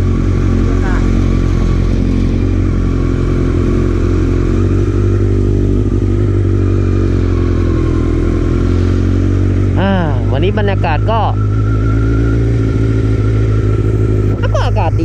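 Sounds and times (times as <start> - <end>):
motorcycle engine running at low revs: 0.0 - 15.0.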